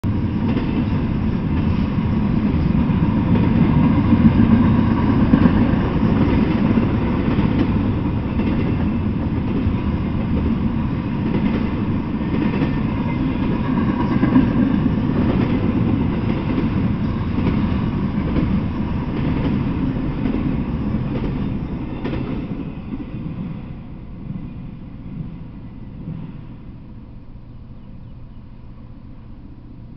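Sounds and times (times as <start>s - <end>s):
freight train wheels on rails: 0.0s - 29.9s.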